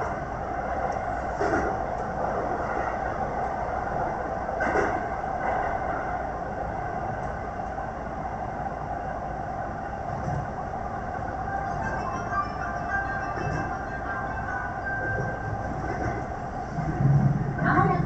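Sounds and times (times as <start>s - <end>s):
electric train running in tunnel: 0.0s - 18.0s.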